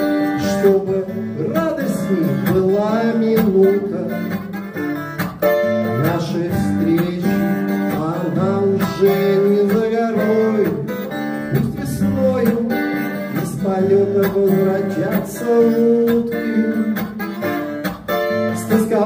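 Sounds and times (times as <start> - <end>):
man singing: 0.0 - 4.8, 5.4 - 19.0
strummed acoustic guitar: 0.0 - 19.0.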